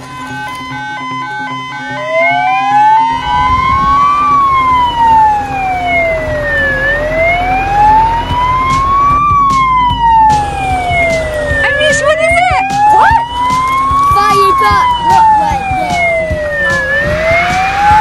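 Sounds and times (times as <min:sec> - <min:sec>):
fire engine siren wailing: 0:00.0 - 0:18.0
low rumble: 0:02.5 - 0:18.0.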